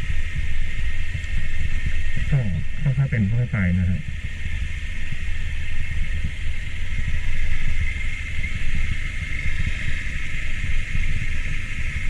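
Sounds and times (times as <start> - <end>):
steady high hiss: 0.0 - 12.0
vehicle engine and road rumble: 0.0 - 12.0.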